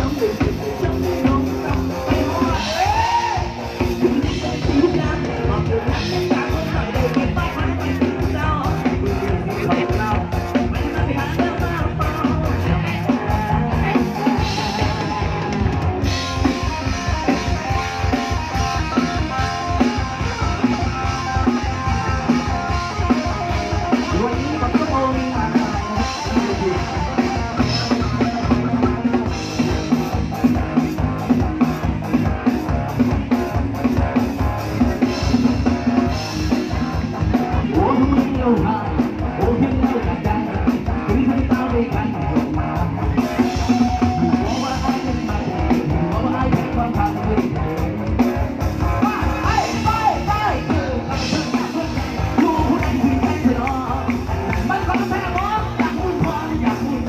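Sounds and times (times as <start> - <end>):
person singing: 0.0 - 34.2, 34.8 - 57.0
live band playing: 0.0 - 57.0.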